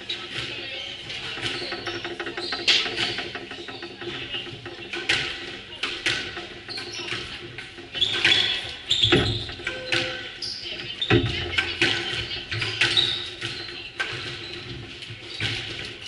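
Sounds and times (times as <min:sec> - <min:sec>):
sneakers squeaking on wooden floor: 0:00.0 - 0:16.0
squash ball hitting rackets and walls: 0:00.0 - 0:16.0.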